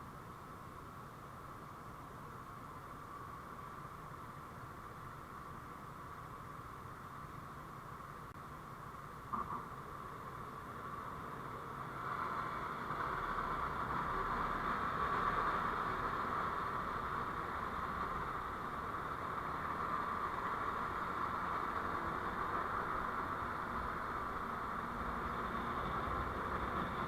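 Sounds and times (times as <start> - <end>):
vehicle road noise: 0.0 - 27.0.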